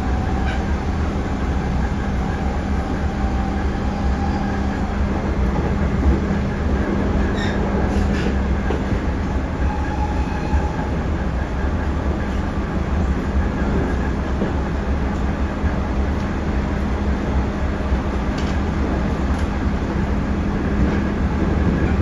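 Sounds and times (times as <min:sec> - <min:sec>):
train hum: 0:00.0 - 0:22.0
train wheels rumbling on rail: 0:00.0 - 0:22.0.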